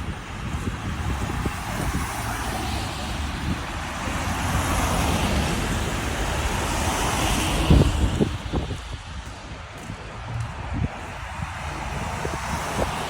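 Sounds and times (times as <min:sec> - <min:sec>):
road traffic: 0:00.0 - 0:13.0
wind on microphone: 0:00.0 - 0:13.0.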